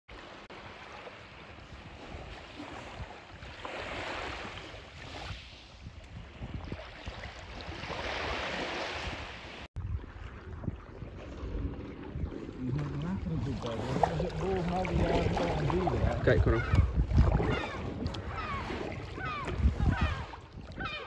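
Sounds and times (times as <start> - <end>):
sea water washing: 0.1 - 21.0
wind rumble on microphone: 1.5 - 21.0.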